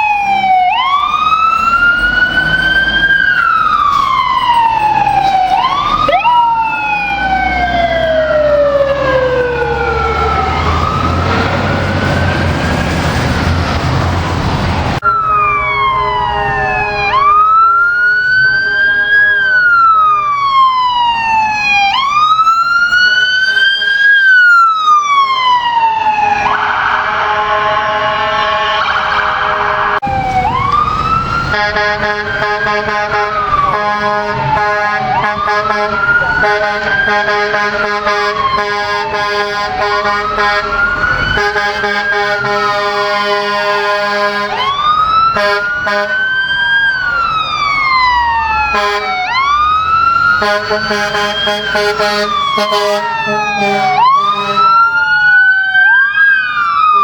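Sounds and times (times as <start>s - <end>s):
emergency siren wailing: 0.0s - 57.0s
steady siren blare: 0.0s - 57.0s.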